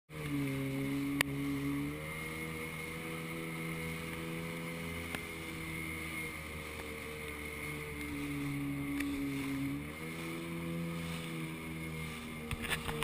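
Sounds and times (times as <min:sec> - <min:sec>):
jet ski engine running: 0:00.1 - 0:13.0.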